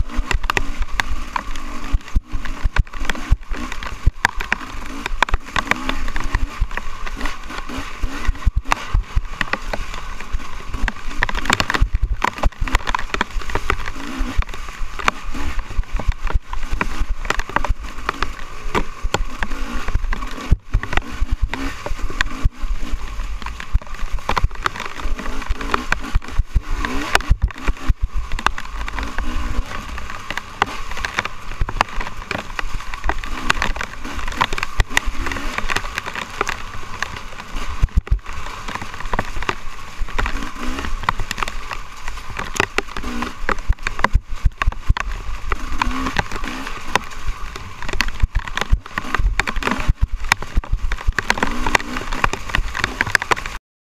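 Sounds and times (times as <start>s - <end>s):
dirt bike engine revving: 0.0s - 53.6s
knocks and rattles from bumps: 0.0s - 53.6s.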